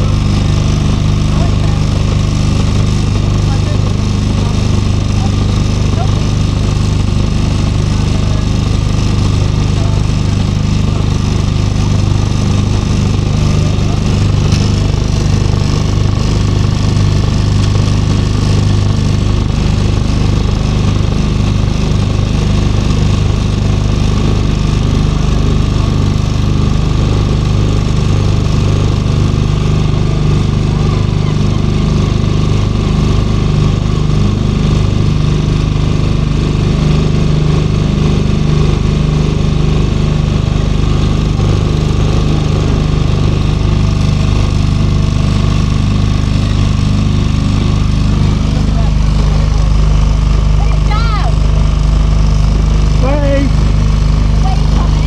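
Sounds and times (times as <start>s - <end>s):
motor boat engine droning: 0.0s - 55.0s.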